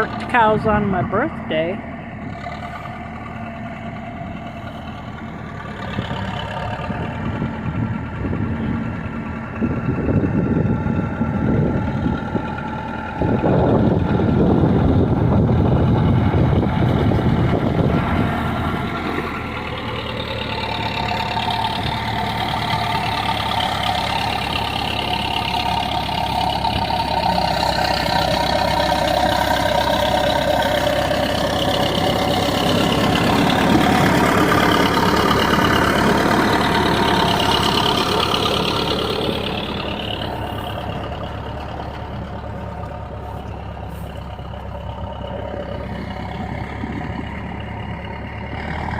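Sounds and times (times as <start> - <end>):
heavy machinery engine running: 0.0 - 48.9.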